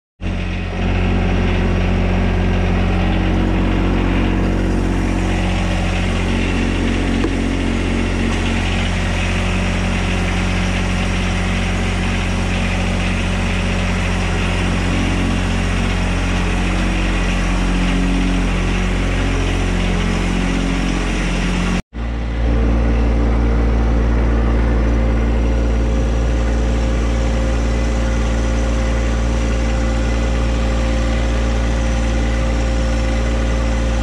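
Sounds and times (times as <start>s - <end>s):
tractor engine idling: 0.2s - 34.0s.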